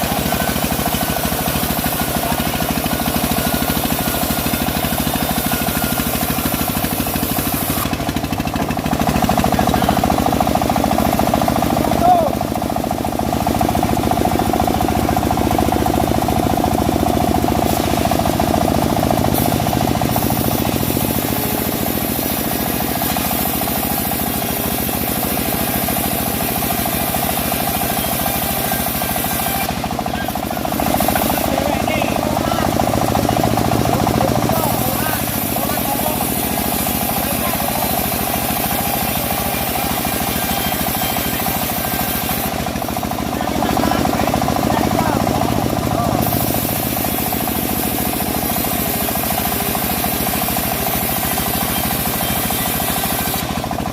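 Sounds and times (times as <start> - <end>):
sawmill engine running: 0.0 - 53.9.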